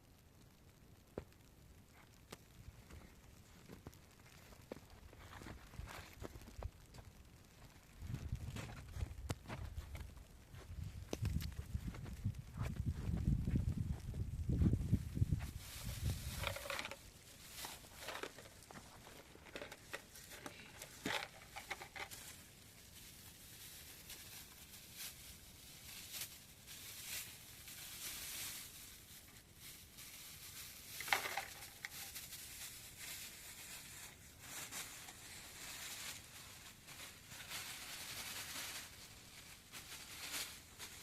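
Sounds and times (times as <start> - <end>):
rustling and crinkling: 0.5 - 41.0.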